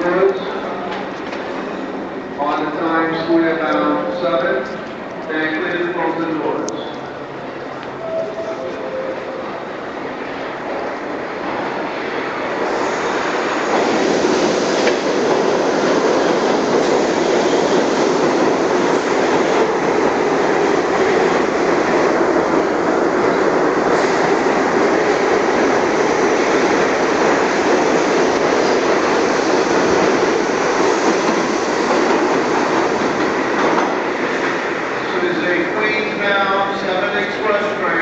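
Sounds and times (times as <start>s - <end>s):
subway train wheels on rails: 0.0s - 38.0s.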